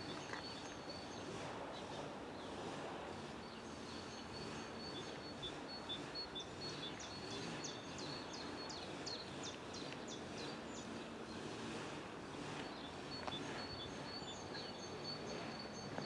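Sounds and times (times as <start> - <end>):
songbird singing: 0.0 - 2.5, 3.4 - 11.5, 12.6 - 16.0
faint outdoor background noise: 0.0 - 16.0.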